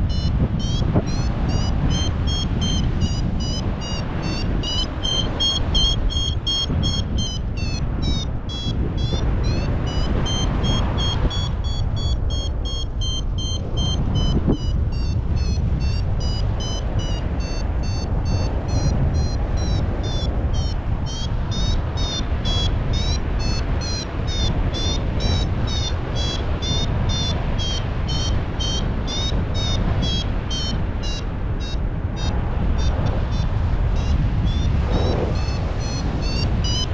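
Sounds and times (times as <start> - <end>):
variometer high beeps: 0.0 - 36.9
wind rumble on microphone: 0.0 - 36.9.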